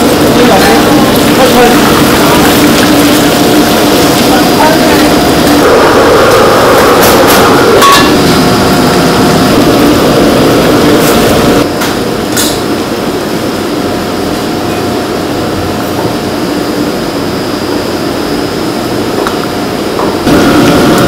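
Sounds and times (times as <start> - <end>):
gas burners rushing: 0.0 - 13.2, 14.2 - 21.0.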